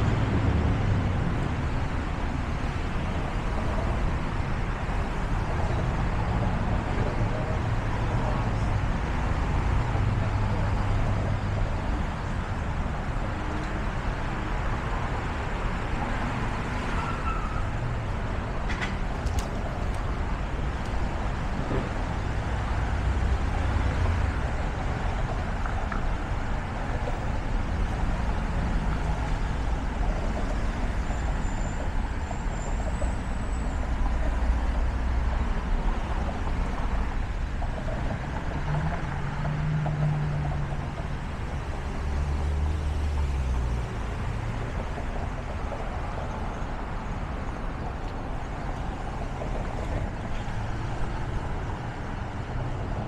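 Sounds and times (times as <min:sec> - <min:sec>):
road traffic hum: 0:00.0 - 0:53.0.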